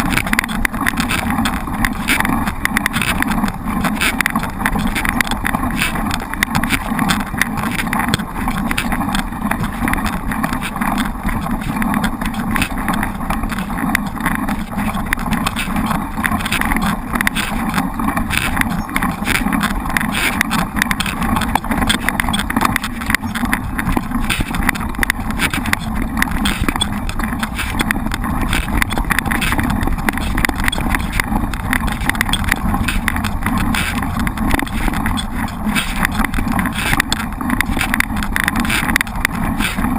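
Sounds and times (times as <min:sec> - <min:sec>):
bike tyres rumbling on trail: 0:00.0 - 0:39.9
dense continuous rattle: 0:00.0 - 0:39.9
wind: 0:00.0 - 0:39.9.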